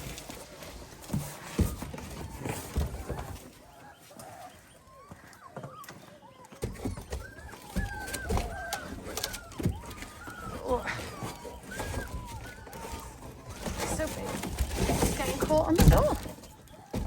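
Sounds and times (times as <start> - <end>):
puppies whining and crying: 0.0 - 17.0.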